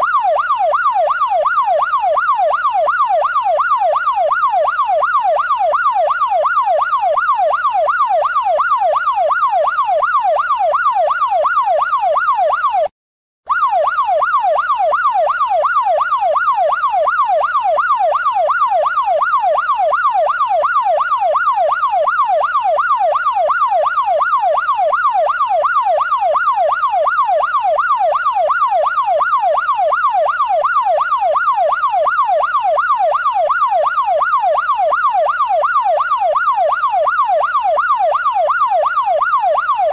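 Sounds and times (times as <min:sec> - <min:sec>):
electronic police siren yelping: 0:00.0 - 0:12.9, 0:13.5 - 0:39.9.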